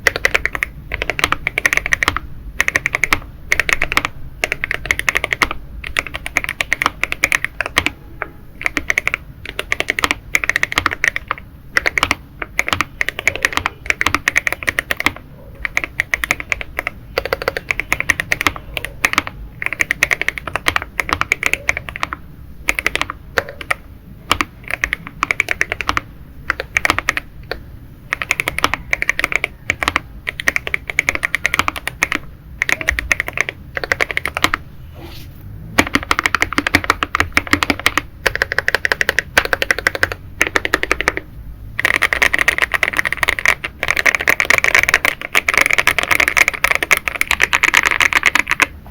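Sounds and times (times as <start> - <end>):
mechanical keyboard typing: 0.0 - 34.7, 35.8 - 48.9.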